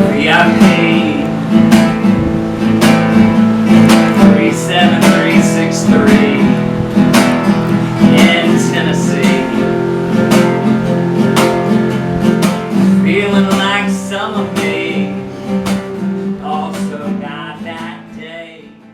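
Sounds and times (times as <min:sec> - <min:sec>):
strummed acoustic guitar song: 0:00.0 - 0:18.9.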